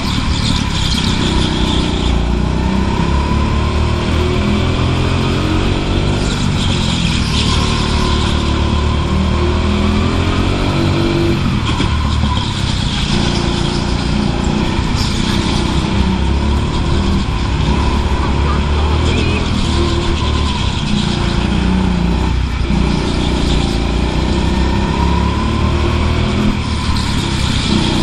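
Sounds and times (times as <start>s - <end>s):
go-kart engine revving: 0.0s - 28.0s.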